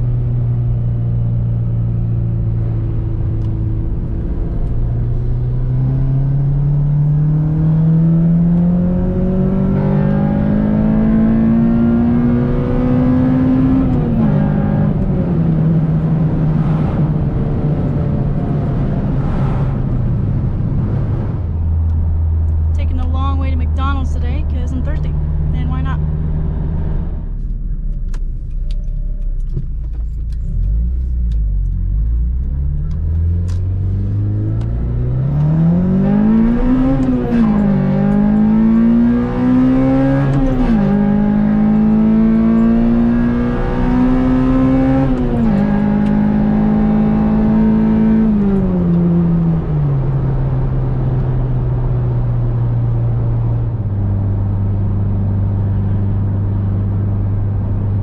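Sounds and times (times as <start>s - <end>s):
car engine while driving: 0.0s - 58.0s.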